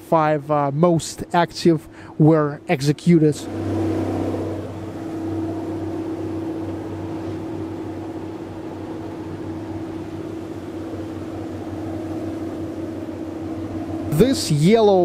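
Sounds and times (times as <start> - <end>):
boat engine humming: 1.7 - 15.0.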